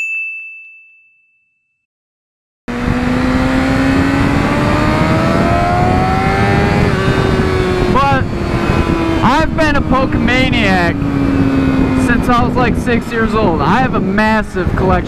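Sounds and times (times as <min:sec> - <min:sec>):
motorcycle engine accelerating: 0:02.7 - 0:15.0
wind noise: 0:02.7 - 0:15.0.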